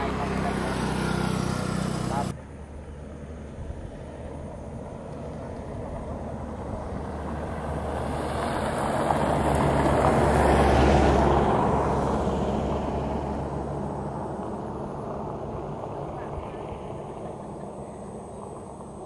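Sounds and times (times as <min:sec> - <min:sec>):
low engine hum: 0:00.0 - 0:19.0
motor vehicle passing by: 0:00.0 - 0:19.0.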